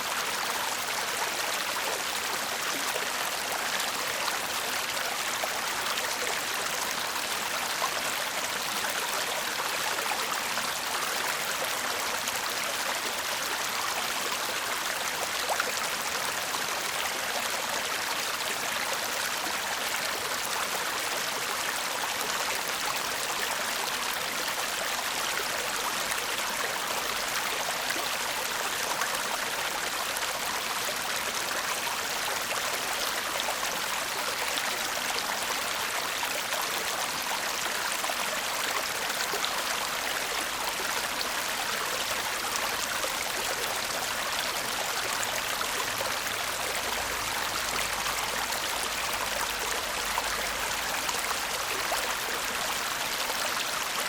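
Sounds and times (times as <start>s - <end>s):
stream babbling: 0.0s - 54.0s.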